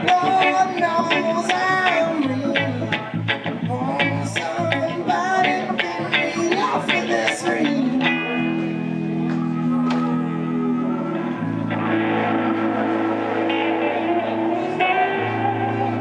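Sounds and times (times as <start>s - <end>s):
bass guitar: 0.0s - 16.0s
electric guitar: 0.0s - 16.0s
keyboard: 0.0s - 16.0s.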